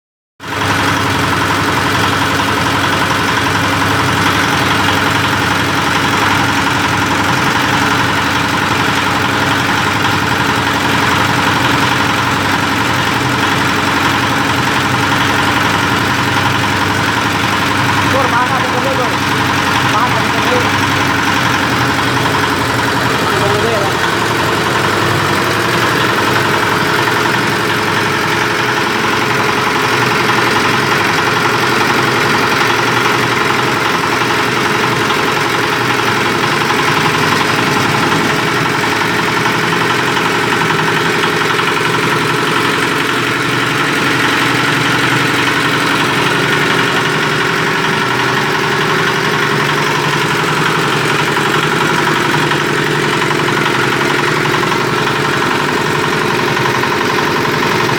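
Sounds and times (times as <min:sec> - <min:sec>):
industrial mixer running: 0:00.4 - 0:57.9.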